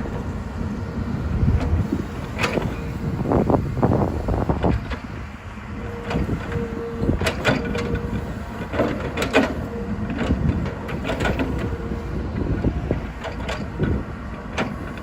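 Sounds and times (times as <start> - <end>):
excavator engine rumbling: 0.0 - 15.0.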